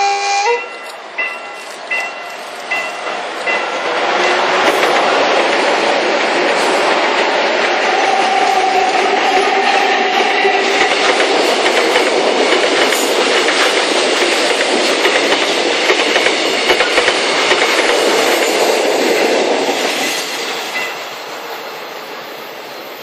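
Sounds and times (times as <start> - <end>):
freight train rolling past: 0.0 - 23.0
train wheels clicking over rail joints: 0.7 - 21.2.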